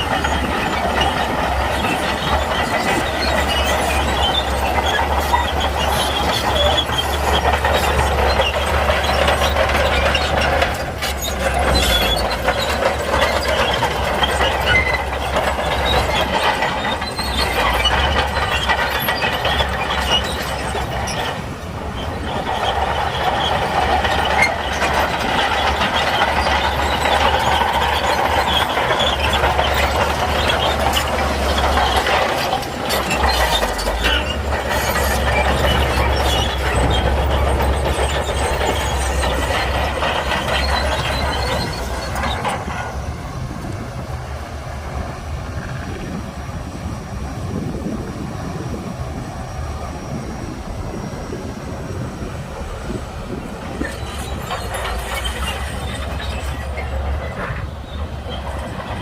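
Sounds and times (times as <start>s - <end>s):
diesel engine drone: 0.0s - 59.0s
steel tracks clanking and squealing: 0.0s - 59.0s.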